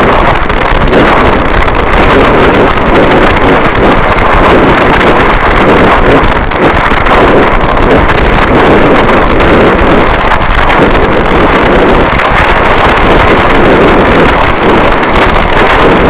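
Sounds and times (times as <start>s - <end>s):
distorted static noise wall: 0.0s - 16.0s.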